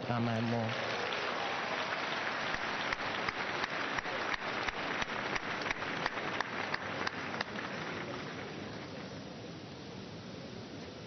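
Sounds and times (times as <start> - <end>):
congregation applauding: 0.0 - 9.2.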